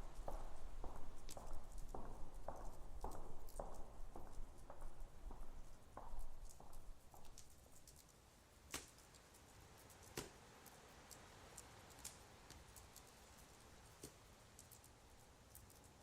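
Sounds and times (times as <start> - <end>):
faint steady hiss: 0.0 - 16.0
faint ticks: 0.0 - 16.0.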